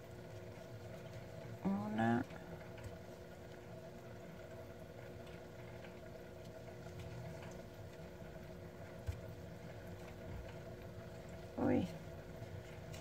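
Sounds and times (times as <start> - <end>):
quiet steady hum: 0.0 - 13.0.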